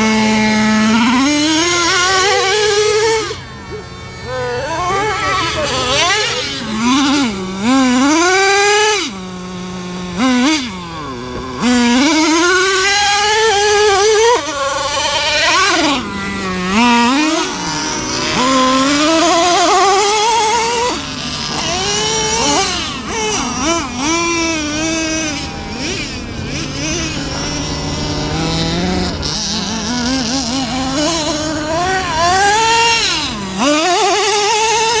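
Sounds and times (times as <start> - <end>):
nitro engine revving: 0.0 - 35.0.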